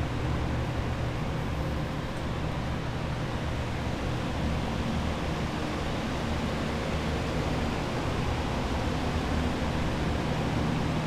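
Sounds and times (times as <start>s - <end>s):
drying fans rushing air: 0.0s - 11.0s.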